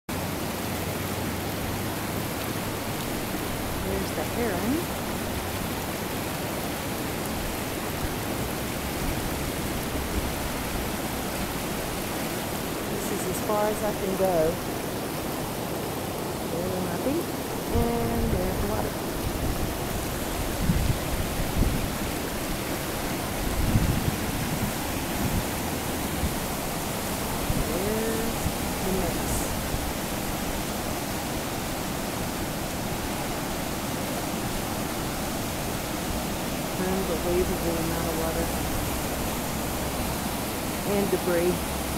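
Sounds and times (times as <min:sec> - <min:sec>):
water rushing through rapids: 0:00.1 - 0:41.9.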